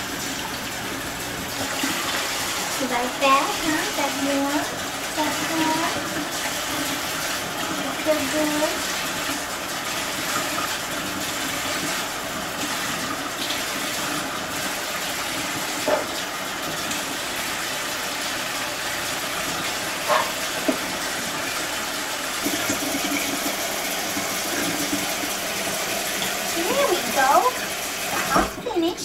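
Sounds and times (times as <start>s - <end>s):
tap water running into sink: 0.0s - 29.0s.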